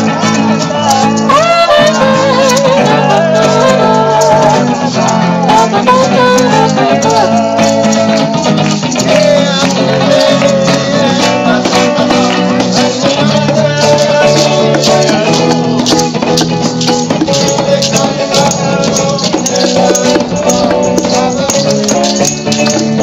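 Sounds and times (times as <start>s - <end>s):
maracas and shakers rattling: 0.0s - 23.0s
strummed guitars: 0.0s - 23.0s.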